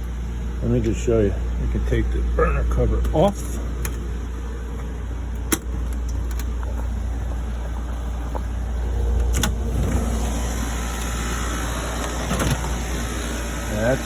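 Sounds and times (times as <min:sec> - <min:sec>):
oil burner roaring: 0:00.0 - 0:14.0.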